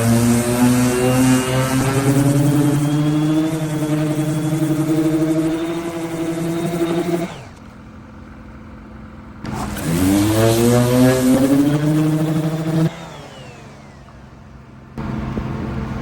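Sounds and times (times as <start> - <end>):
engine revving: 0.0 - 7.9, 9.4 - 16.0.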